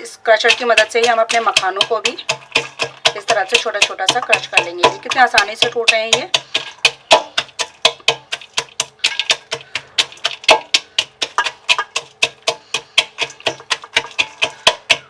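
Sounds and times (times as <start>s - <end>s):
crusher pounding nuts: 0.3s - 15.0s.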